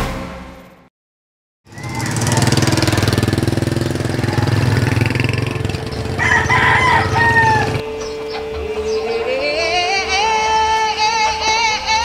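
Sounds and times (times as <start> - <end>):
engine running: 1.7 - 11.9
rooster crowing: 1.7 - 12.0.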